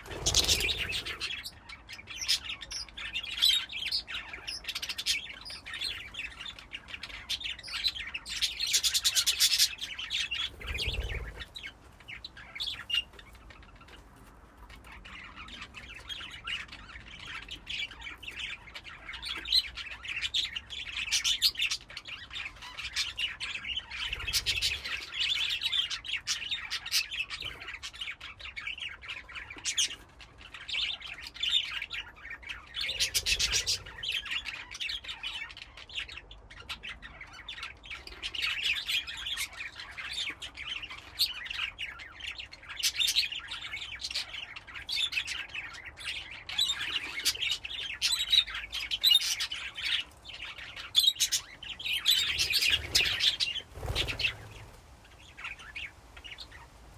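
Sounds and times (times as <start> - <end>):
budgerigars chattering: 0.0 - 13.8, 14.8 - 56.6.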